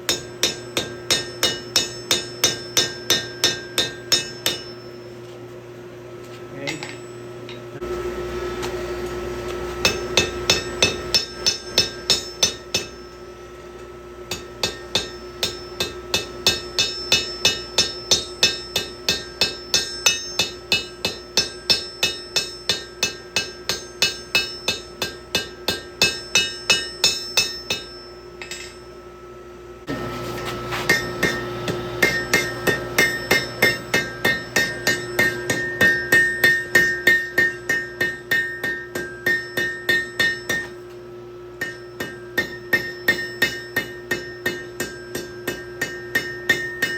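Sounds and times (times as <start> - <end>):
hammer ringing on anvil: 0.0 - 5.2, 6.5 - 8.0, 9.8 - 46.9
steady hum: 0.0 - 46.9.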